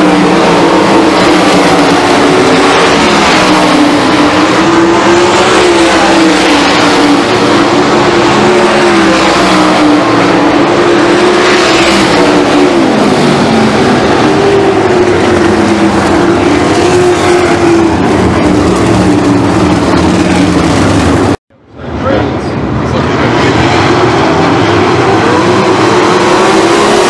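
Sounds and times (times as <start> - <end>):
race car engines passing: 0.0 - 27.0.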